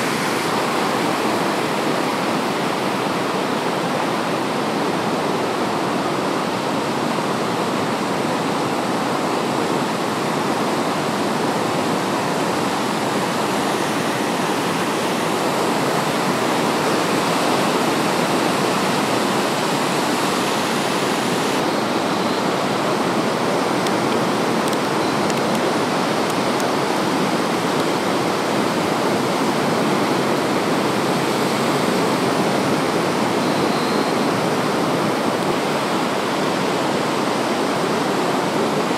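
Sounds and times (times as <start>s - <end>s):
surf breaking on a beach: 0.0s - 38.9s.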